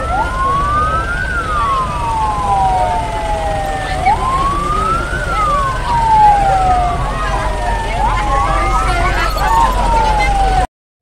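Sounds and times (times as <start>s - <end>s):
fire truck sirens wailing: 0.0s - 10.7s.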